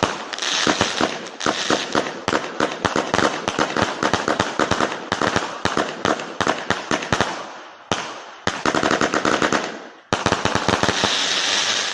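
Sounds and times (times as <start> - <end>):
fireworks cake firing sharp reports: 0.0 - 11.9.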